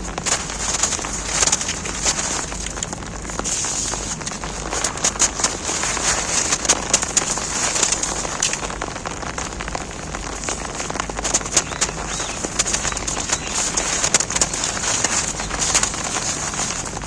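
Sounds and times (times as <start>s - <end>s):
rain pattering on umbrella: 0.0s - 17.0s
snow crackling as crumbled: 0.0s - 17.0s.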